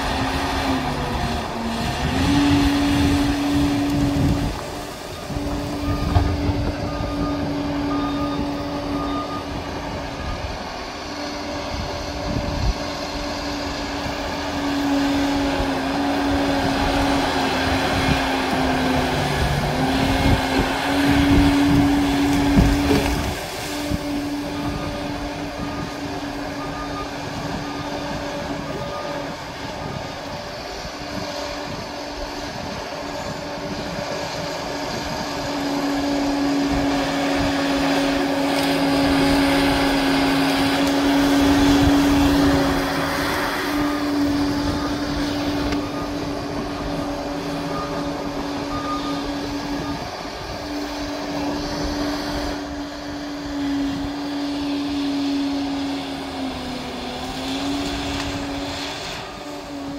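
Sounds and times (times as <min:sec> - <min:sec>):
dozer diesel engine running: 0:00.0 - 0:59.9.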